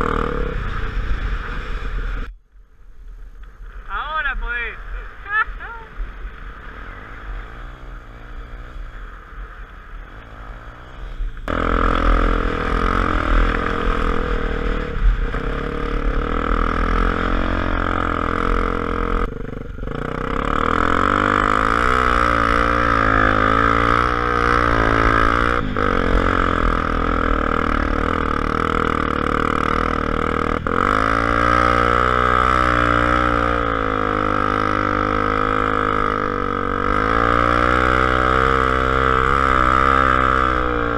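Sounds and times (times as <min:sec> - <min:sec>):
motorcycle engine accelerating: 0:00.0 - 0:02.3, 0:05.3 - 0:40.9.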